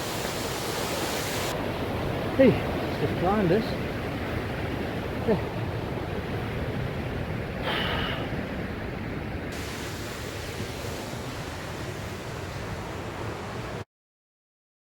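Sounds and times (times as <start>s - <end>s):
waterfall roaring: 0.0s - 13.8s.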